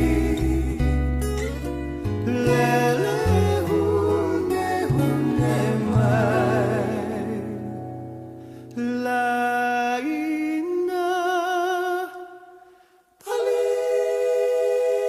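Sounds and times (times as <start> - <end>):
slow song with held sung notes: 0.0 - 15.0.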